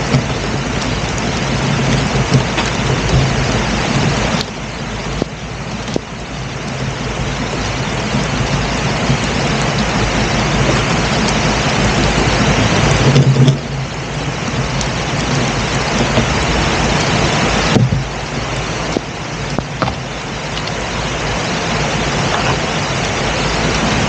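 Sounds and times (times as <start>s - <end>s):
boat engine running: 0.0s - 24.0s
wind and water rushing: 0.0s - 24.0s.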